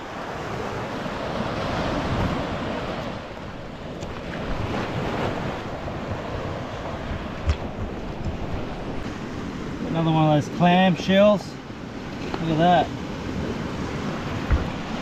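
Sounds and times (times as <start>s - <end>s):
wind buffeting microphone: 0.0s - 10.9s, 11.7s - 15.0s
ocean waves washing on shore: 0.0s - 15.0s.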